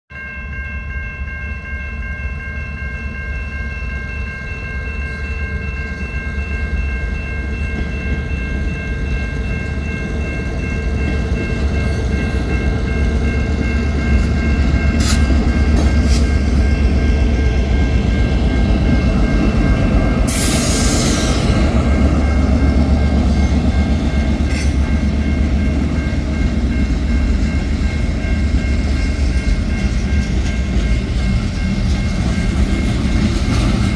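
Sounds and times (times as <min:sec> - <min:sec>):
freight train rumbling past: 0:02.4 - 0:33.9.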